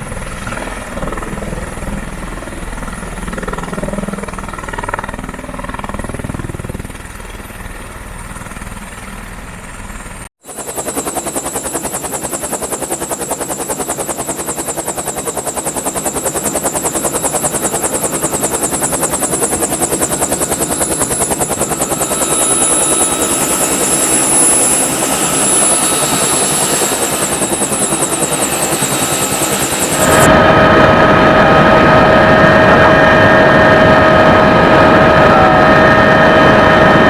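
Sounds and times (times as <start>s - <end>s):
helicopter rotor chopping: 0.0s - 37.0s.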